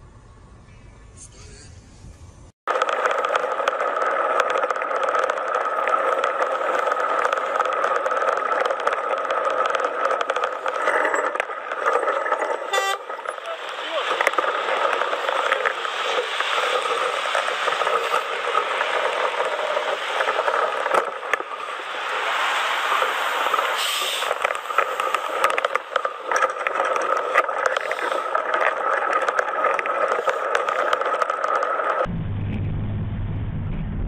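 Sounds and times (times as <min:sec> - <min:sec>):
thin steady whine: 0:00.0 - 0:34.0
lorry tyre and road noise: 0:02.0 - 0:32.1.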